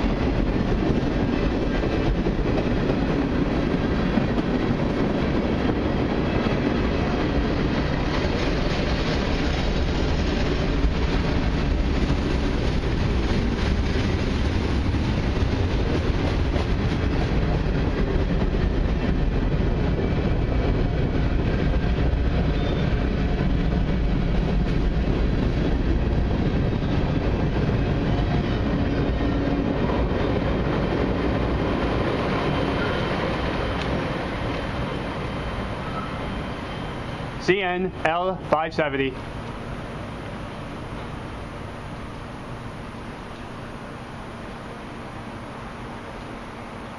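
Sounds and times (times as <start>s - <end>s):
freight train rolling past: 0.0s - 46.9s.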